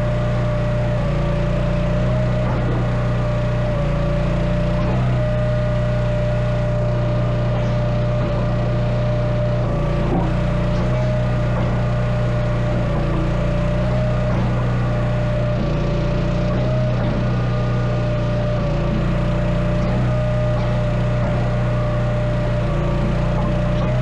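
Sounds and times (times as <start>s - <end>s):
constant whine: 0.0s - 24.0s
log splitter engine running: 0.0s - 24.0s.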